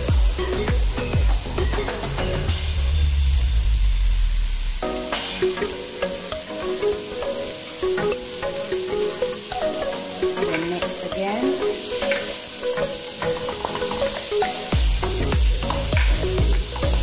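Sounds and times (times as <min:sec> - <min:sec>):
background music: 0:00.0 - 0:17.0
vegetables sizzling in a frying pan: 0:00.0 - 0:17.0.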